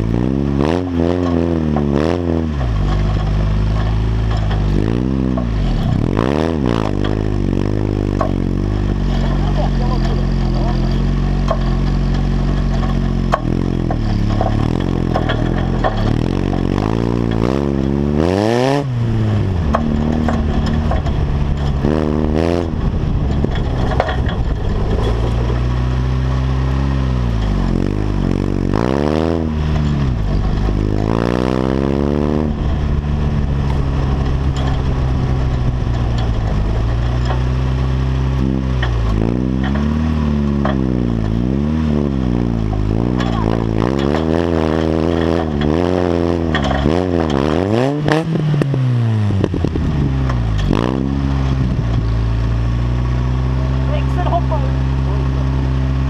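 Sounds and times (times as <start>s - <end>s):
buggy engine revving: 0.0s - 56.0s
chassis knocks and rattles: 0.0s - 56.0s.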